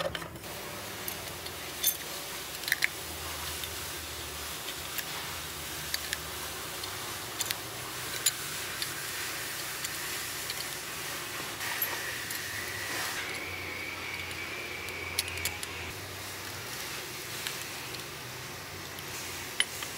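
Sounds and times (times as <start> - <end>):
steady background hiss: 0.2 - 19.9.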